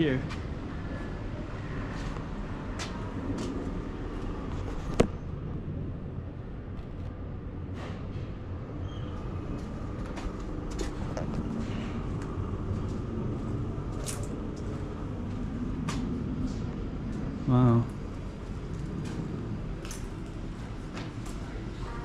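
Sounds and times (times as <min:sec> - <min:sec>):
traffic and machinery hum: 0:00.0 - 0:22.0.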